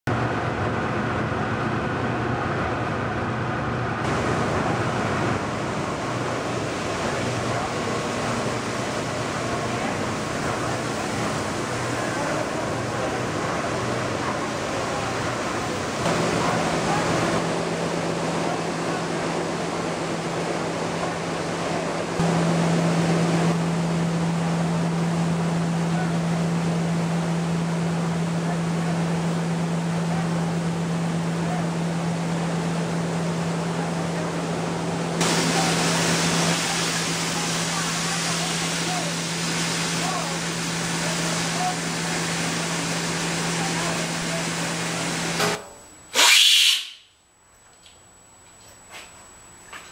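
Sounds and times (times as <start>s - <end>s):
furnace fire roaring: 0.1s - 46.1s
low machinery hum: 0.1s - 46.2s.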